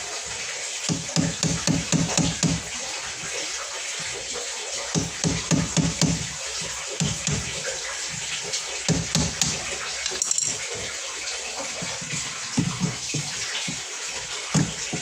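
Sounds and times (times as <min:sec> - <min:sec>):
water running from a tap: 0:00.0 - 0:15.0.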